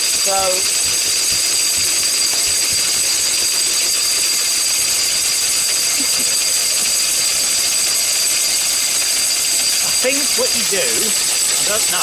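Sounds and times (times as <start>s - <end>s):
stationary engine running: 0.0s - 12.0s.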